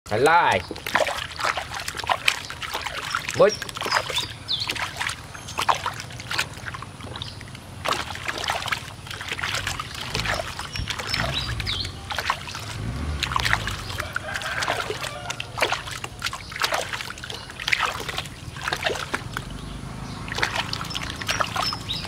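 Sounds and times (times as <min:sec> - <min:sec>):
water splashing in plastic basin: 0:00.1 - 0:22.0.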